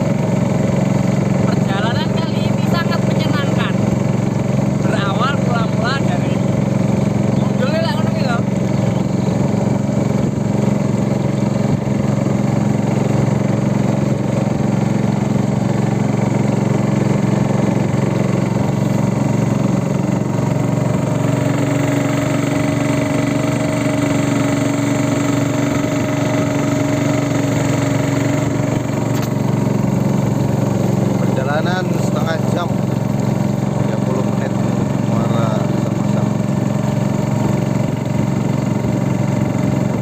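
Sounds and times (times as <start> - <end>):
boat engine drone: 0.0 - 40.0.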